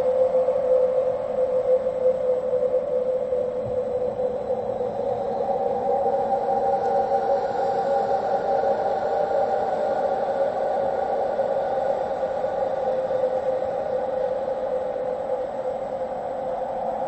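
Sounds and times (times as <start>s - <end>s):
eerie drone of held tones: 0.0s - 17.0s.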